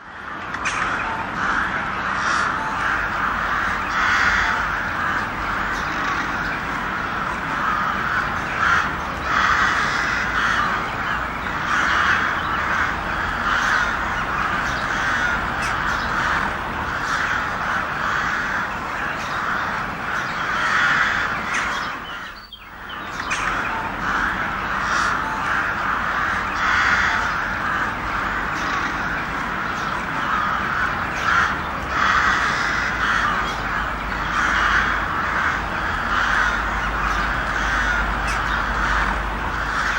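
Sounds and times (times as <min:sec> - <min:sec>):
crows cawing: 0:00.0 - 0:39.9.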